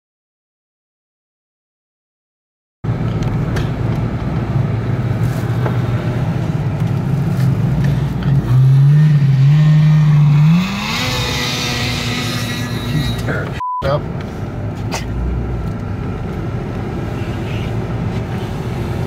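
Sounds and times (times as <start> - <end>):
vehicle engine running: 2.9 - 19.0.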